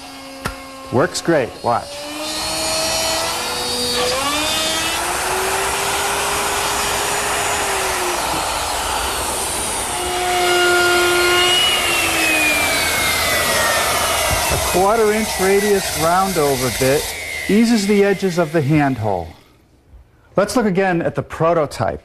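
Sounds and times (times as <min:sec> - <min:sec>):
router cutting wood: 0:00.0 - 0:19.6.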